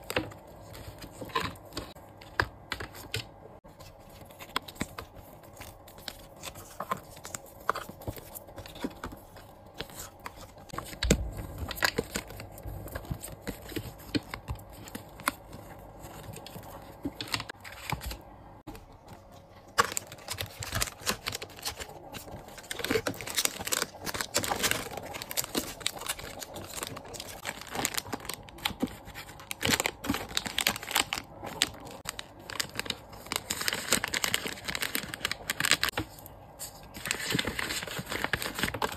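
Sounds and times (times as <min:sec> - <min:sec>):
plastic wrap crinkling: 0:00.0 - 0:38.9.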